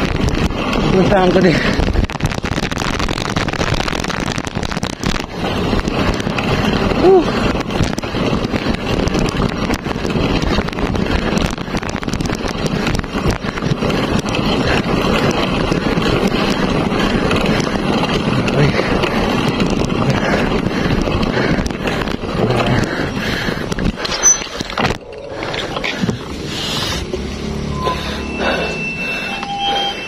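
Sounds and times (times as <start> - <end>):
wind buffeting microphone: 0.0 - 27.1
tyres rolling on concrete: 0.0 - 30.0
short crackles: 1.5 - 27.0.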